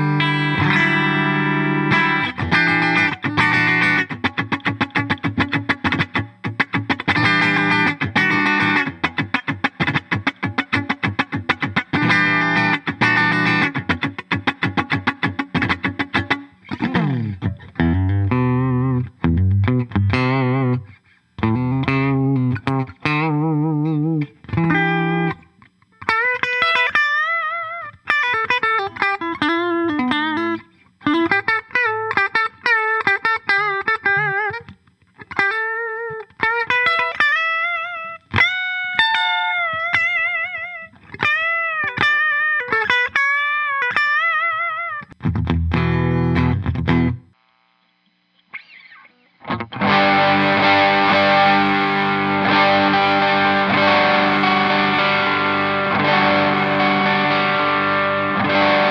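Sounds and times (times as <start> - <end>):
electric guitar chords: 0.0 - 47.4, 48.5 - 58.9
electric guitar lead melody: 0.0 - 47.4, 48.6 - 58.9.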